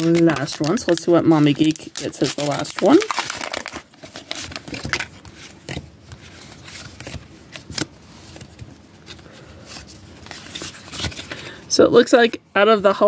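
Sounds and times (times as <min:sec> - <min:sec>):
paper and card rustling: 0:00.0 - 0:11.5.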